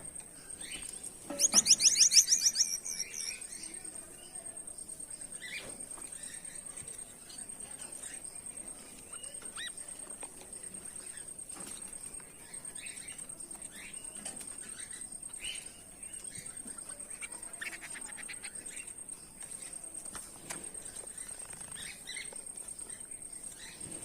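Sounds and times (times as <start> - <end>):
goldfinches chirping and twittering: 0.0 - 24.0.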